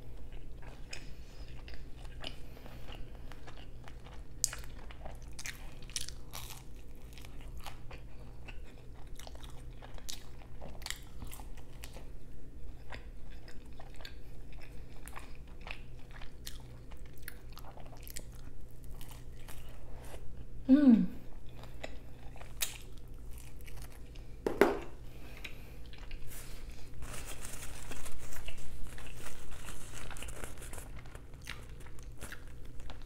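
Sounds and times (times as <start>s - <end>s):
chewing crunchy food: 0.0s - 20.6s, 21.3s - 33.0s
faint low hum: 0.0s - 33.0s.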